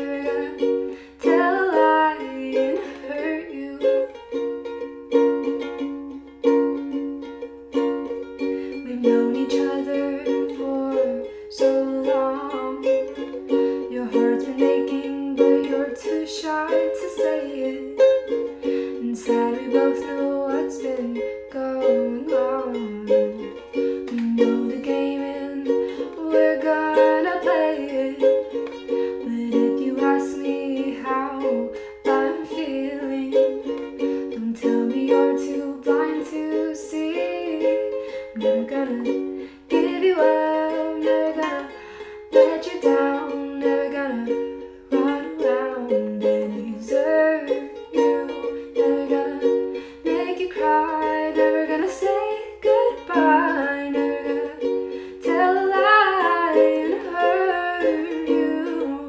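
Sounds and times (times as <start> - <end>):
ukulele strumming: 0.0 - 59.0.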